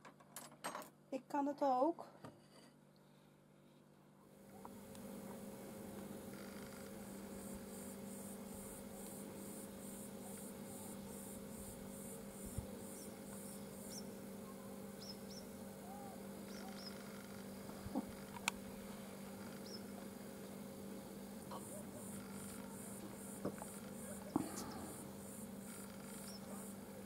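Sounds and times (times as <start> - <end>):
steady low hum: 0.9 - 27.0.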